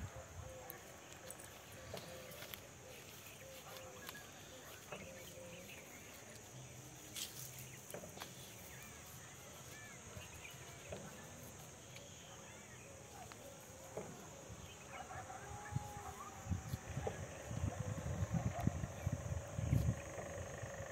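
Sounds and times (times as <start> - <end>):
faint bird calls: 0.0 - 20.9.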